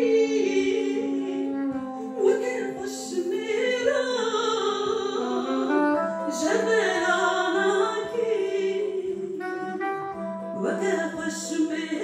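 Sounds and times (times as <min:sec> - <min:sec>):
long-necked lute: 0:00.0 - 0:12.0
soprano saxophone: 0:00.0 - 0:12.0
woman singing: 0:00.0 - 0:12.0.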